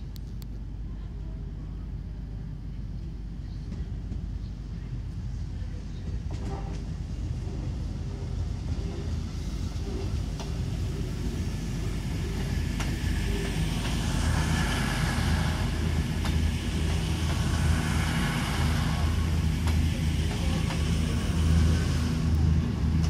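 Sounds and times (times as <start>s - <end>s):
low diesel train engine drone: 0.0s - 23.0s
train moving on rails: 0.0s - 23.0s.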